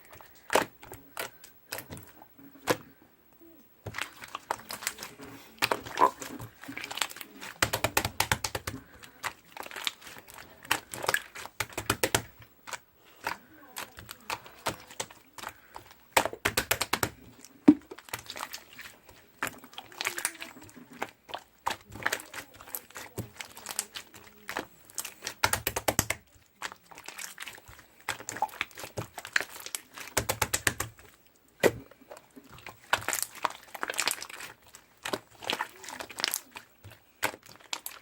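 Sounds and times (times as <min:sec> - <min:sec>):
slime clicking and crackling: 0:00.0 - 0:02.8, 0:03.8 - 0:38.0.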